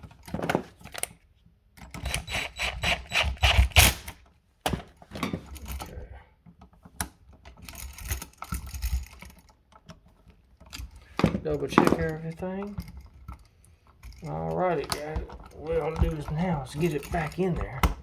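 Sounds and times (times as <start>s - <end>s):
electrical hardware clicking and rattling: 0.0s - 18.0s.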